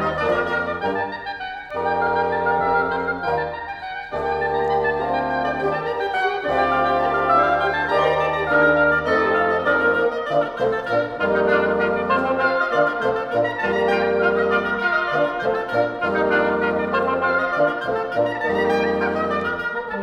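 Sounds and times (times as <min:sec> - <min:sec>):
woodwind ensemble playing fiddle tune: 0:00.0 - 0:20.0.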